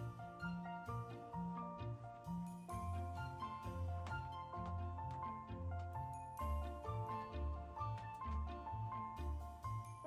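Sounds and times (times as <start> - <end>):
light bouncy background music: 0.0 - 10.0.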